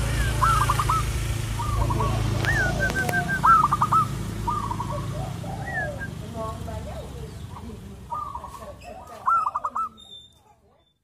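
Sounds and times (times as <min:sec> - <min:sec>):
dove cooing: 0:00.0 - 0:10.2.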